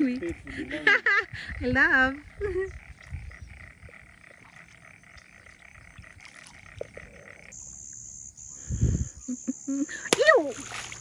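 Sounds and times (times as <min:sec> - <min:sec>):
frogs calling in chorus: 0:00.0 - 0:11.0.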